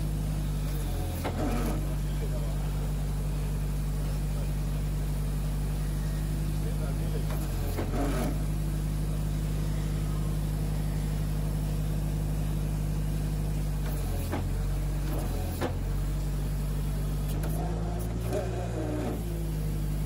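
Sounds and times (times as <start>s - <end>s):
truck engine and machinery humming: 0.0s - 20.0s.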